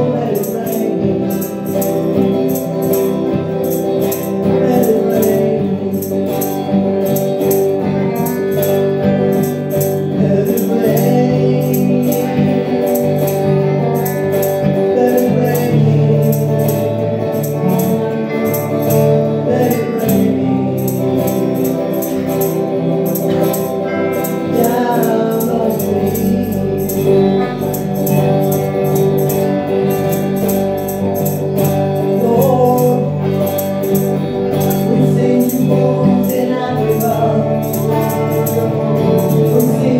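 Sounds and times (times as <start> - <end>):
electric guitar: 0.0 - 39.9
high jingling beat: 0.0 - 39.9
keyboard: 0.0 - 39.9.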